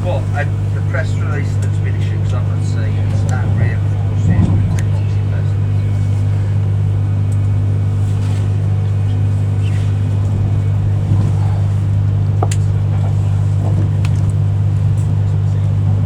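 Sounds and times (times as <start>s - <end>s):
train cabin hum: 0.0s - 16.0s.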